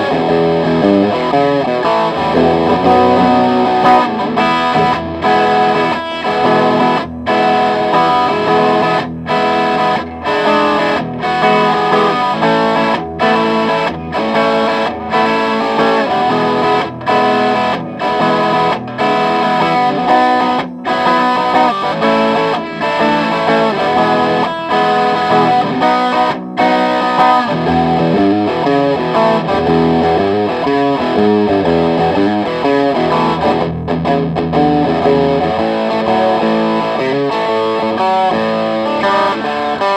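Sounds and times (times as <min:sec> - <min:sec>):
distorted electric guitar riff: 0:00.0 - 0:39.9.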